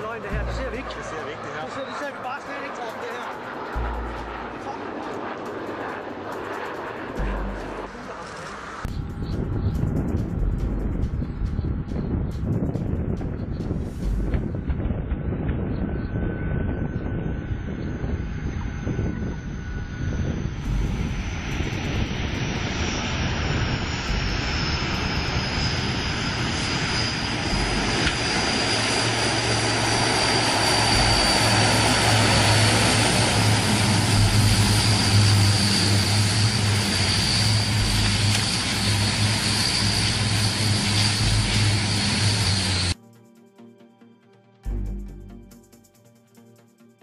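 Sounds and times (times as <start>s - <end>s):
low hum: 0.0s - 2.0s, 3.3s - 43.0s
high engine whine: 0.0s - 43.0s
aircraft engine running: 0.0s - 47.0s.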